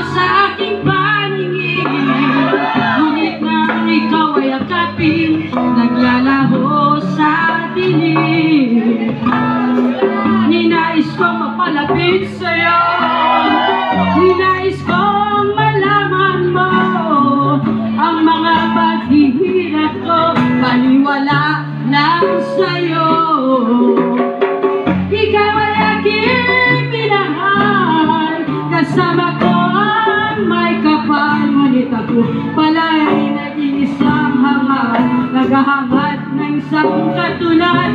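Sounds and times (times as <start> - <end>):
acoustic guitar: 0.0 - 37.9
women singing: 0.0 - 37.9.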